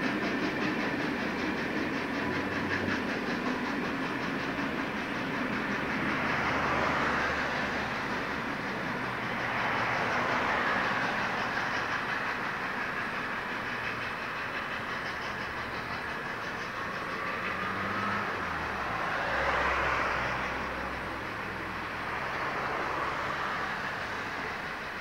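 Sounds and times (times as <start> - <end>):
train wheels clattering over rails: 0.0 - 25.0.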